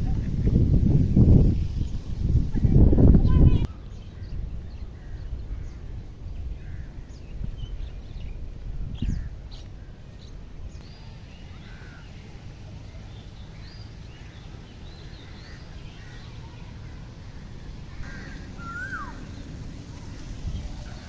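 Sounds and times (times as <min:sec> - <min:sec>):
birds chirping: 0:00.0 - 0:21.0
low outdoor rumble: 0:00.0 - 0:21.0.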